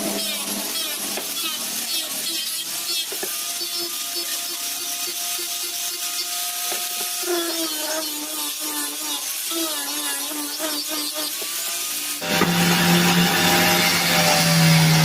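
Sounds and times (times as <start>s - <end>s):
power tool cutting wood: 0.0s - 15.0s.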